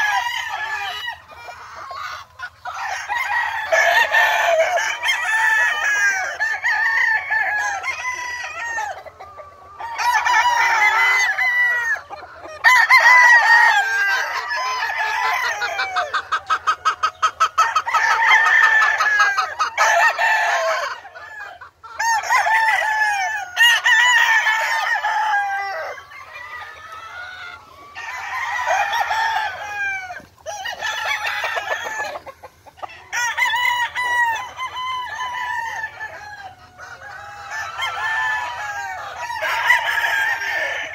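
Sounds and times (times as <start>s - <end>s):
roosters clucking: 0.0s - 40.9s
roosters crowing: 0.0s - 40.9s.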